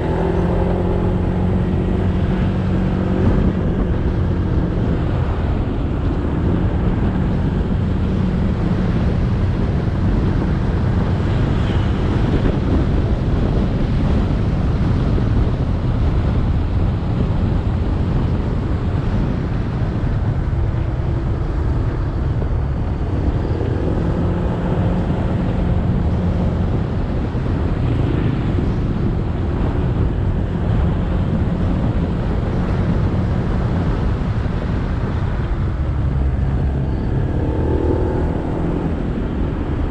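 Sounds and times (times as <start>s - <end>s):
motorcycle engine revving: 0.0s - 19.6s, 20.6s - 39.9s
road noise: 0.0s - 39.9s
wind on microphone: 0.0s - 39.9s.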